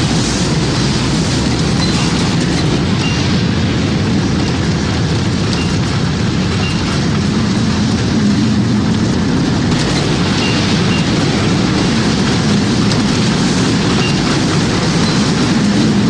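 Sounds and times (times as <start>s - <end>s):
tornado wind rumbling: 0.0s - 16.0s.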